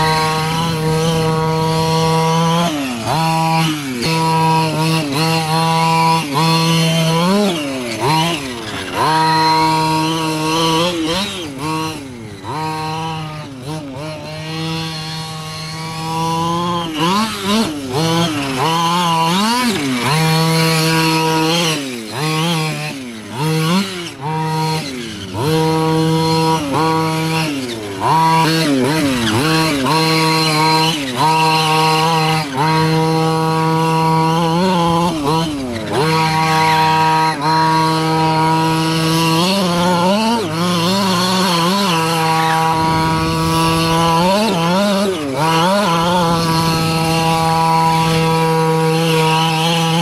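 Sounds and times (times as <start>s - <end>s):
two-stroke engine revving: 0.0s - 50.0s.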